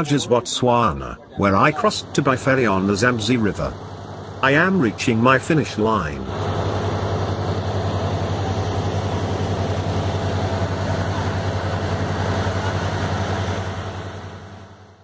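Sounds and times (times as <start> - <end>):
engine running with fast pulsing: 0.0 - 15.0.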